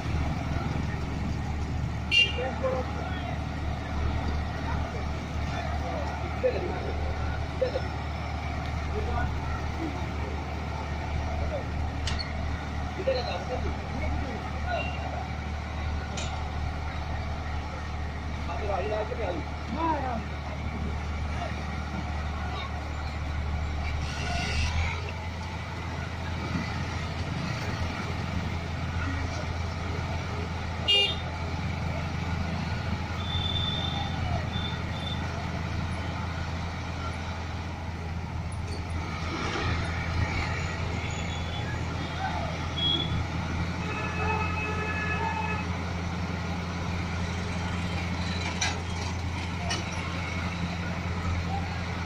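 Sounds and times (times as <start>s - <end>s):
heavy vehicle engine running: 0.0s - 52.0s.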